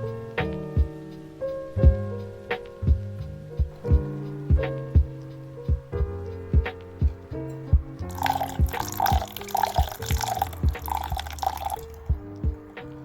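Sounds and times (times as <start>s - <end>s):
background music with beat: 0.0s - 13.0s.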